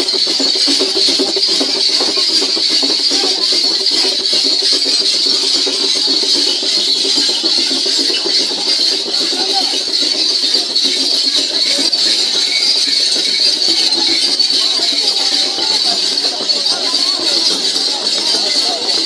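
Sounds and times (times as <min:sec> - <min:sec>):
crowd voices: 0:00.0 - 0:19.0.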